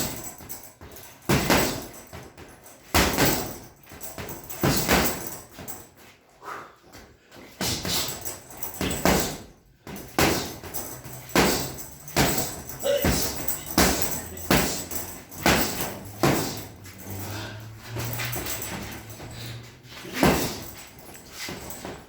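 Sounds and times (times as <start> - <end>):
punches smacking: 0.0 - 5.9, 7.6 - 22.0.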